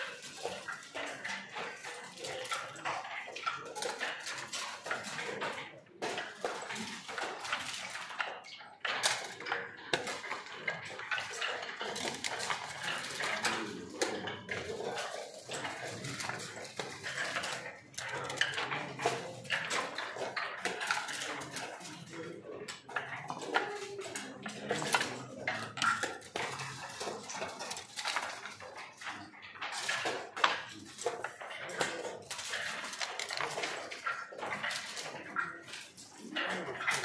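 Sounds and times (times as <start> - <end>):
checkers clacking on board: 0.0 - 37.0.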